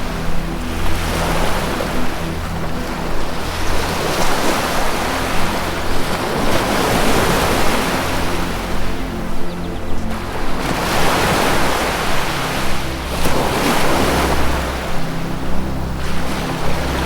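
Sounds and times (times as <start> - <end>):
low music drone: 0.0 - 17.0
ocean waves washing in: 0.0 - 17.0.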